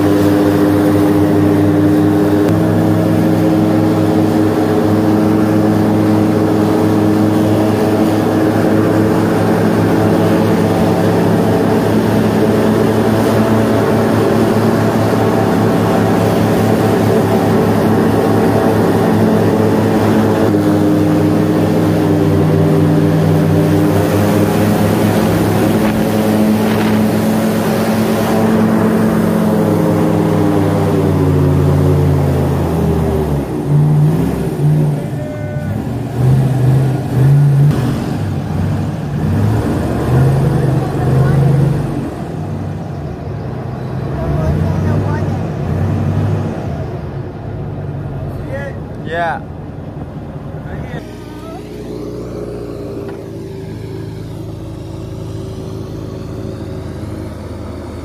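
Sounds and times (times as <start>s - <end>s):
airboat engine and propeller droning: 0.0s - 58.0s.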